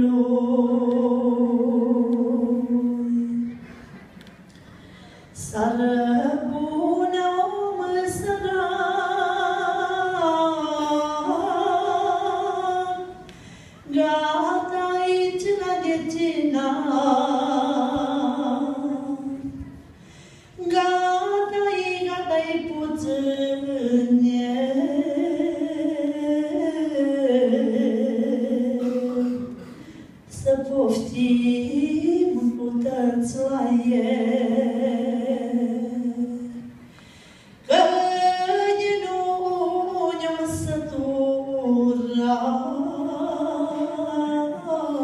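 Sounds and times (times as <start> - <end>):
woman singing unaccompanied: 0.0 - 3.6, 5.4 - 13.2, 13.9 - 19.8, 20.6 - 29.6, 30.3 - 36.7, 37.7 - 45.0.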